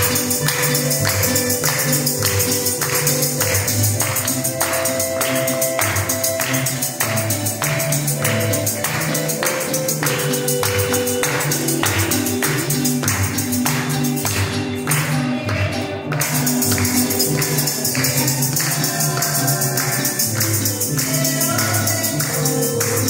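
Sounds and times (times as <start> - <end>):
acoustic guitar: 0.0 - 23.0
keyboard: 0.0 - 23.0
percussion rhythm: 0.0 - 23.0
upright double bass: 0.0 - 23.0.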